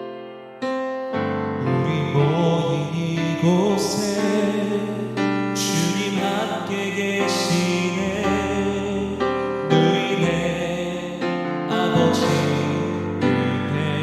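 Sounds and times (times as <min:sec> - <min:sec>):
worship band music: 0:01.6 - 0:14.0.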